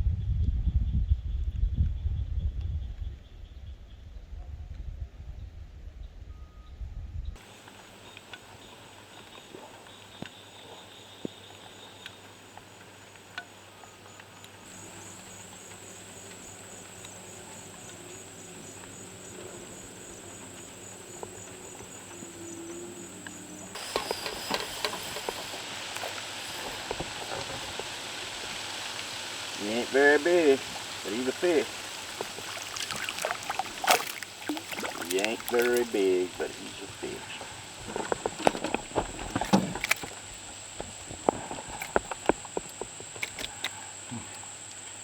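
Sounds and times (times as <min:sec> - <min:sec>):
insects trilling: 0:07.4 - 0:45.0.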